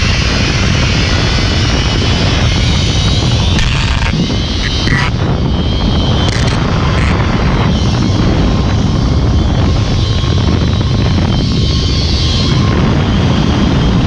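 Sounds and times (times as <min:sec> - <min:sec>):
wind noise on microphone: 0:00.0 - 0:14.0
zipline trolley whirring on cable: 0:00.0 - 0:14.0.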